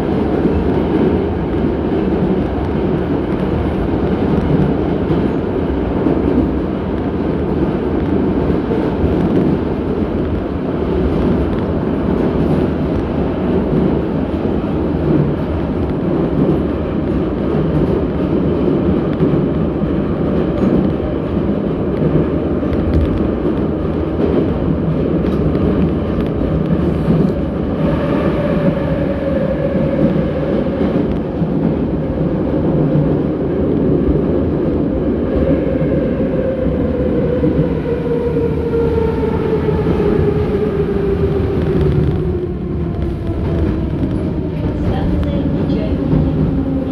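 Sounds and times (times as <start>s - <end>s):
metro train wheels rumbling: 0.0s - 46.9s.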